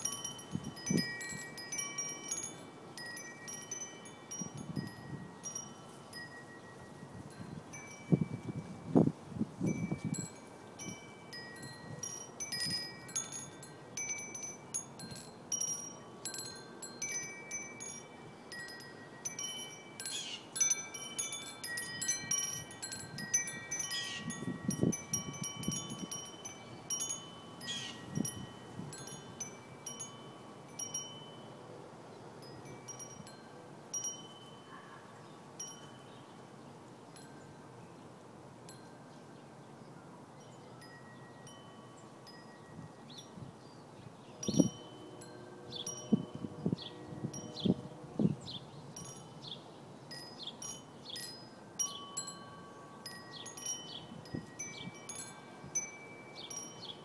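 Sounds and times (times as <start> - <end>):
metal wind chime tinkling: 0.0 - 31.7, 32.4 - 36.3, 40.4 - 43.8, 44.4 - 57.0.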